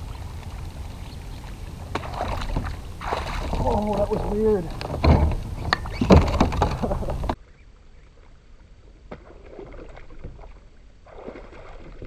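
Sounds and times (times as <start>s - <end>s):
water splashing: 0.0s - 7.4s, 8.9s - 12.0s.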